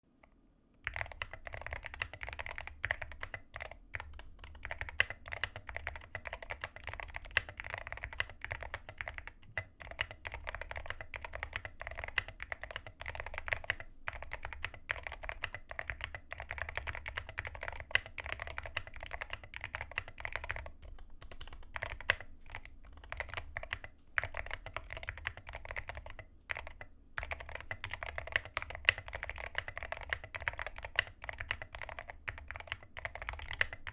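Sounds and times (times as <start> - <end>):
mechanical keyboard typing: 0.8 - 33.9.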